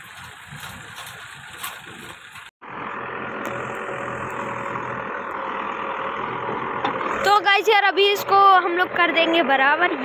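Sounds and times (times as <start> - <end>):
backhoe diesel engine running: 0.0 - 10.0.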